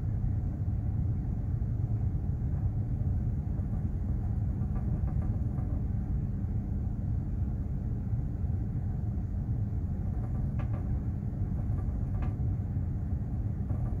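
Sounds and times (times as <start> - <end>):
ship engine rumble: 0.0 - 14.0.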